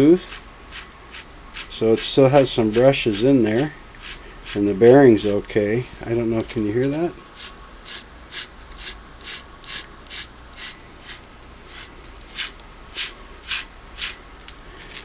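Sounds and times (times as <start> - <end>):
motor brushes scraping commutator: 0.0 - 14.3.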